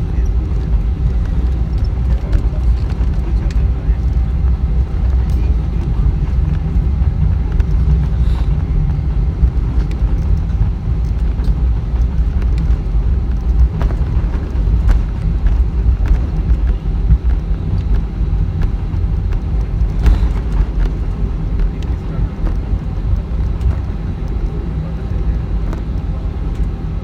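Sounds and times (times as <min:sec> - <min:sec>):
jet engine cabin rumble: 0:00.0 - 0:27.0
light knocks and rattles: 0:00.1 - 0:26.8.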